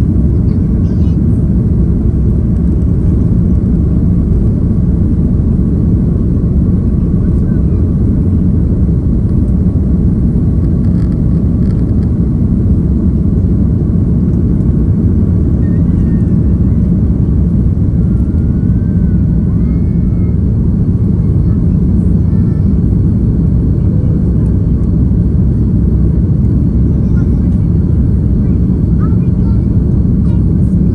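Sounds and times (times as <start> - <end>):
jet airliner cabin rumble: 0.0 - 30.9.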